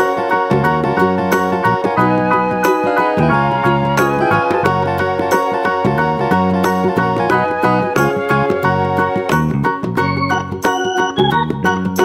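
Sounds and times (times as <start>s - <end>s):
upbeat music with steady beat: 0.0s - 12.0s.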